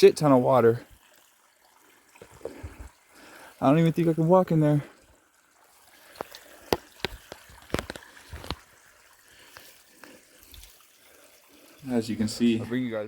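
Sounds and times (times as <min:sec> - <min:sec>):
water dripping into water: 0:00.0 - 0:12.0
faint water trickle: 0:00.0 - 0:13.0.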